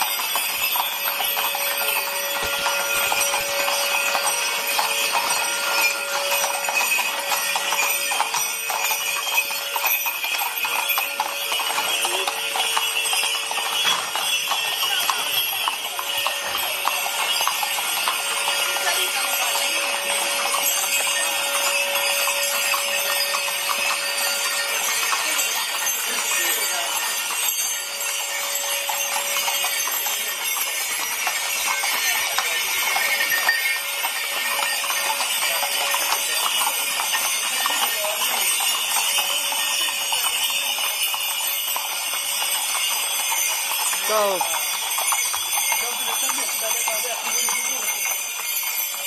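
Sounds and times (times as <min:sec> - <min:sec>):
horse hooves clopping on pavement: 0:00.0 - 0:49.0.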